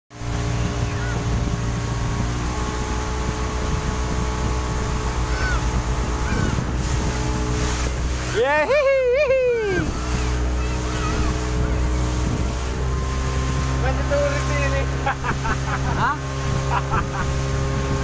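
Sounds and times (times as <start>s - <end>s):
outboard motor drone: 0.1s - 18.0s
wind and water rushing past hull: 0.1s - 18.0s.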